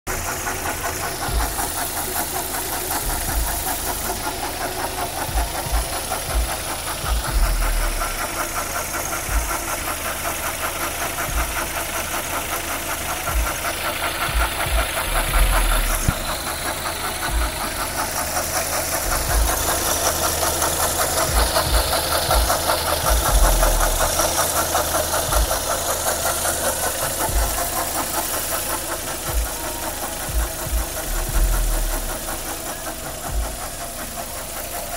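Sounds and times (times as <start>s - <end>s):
car engine running: 0.0s - 34.9s
rapid engine knocking: 0.0s - 34.9s.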